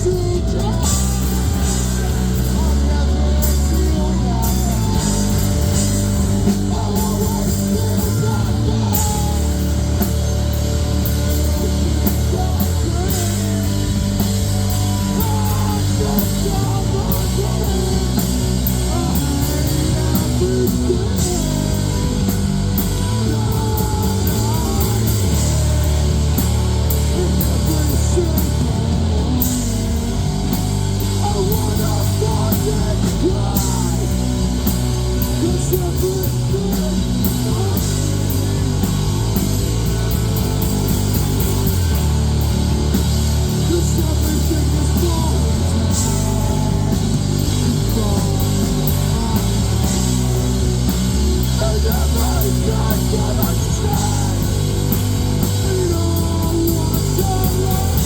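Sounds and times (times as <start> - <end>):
bass guitar: 0.0 - 58.0
distorted electric guitars: 0.0 - 58.0
drum kit with cymbal hits: 0.0 - 58.0.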